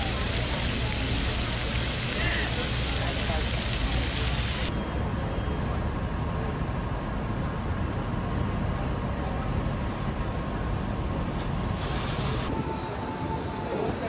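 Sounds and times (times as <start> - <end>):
city street traffic rumble: 0.0 - 14.0.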